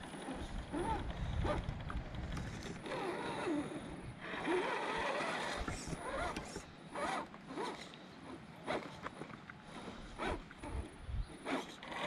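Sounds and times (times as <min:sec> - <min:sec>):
toy truck motor whining: 0:00.0 - 0:12.0.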